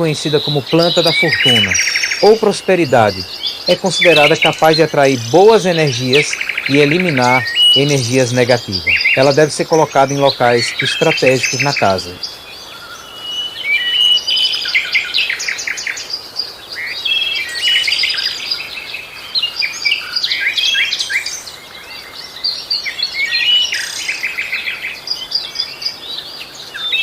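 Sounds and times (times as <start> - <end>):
songbirds chirping and singing: 0.0 - 27.0.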